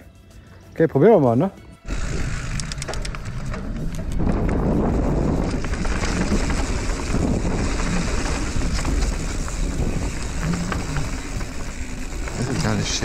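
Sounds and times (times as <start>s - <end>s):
bike tyres rumbling on dirt: 1.9s - 13.0s
wind buffeting microphone: 1.9s - 13.0s.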